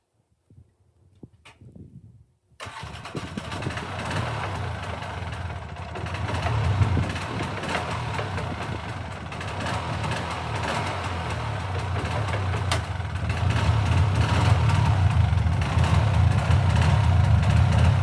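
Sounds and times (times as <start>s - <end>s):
atv engine idling: 2.8s - 18.0s.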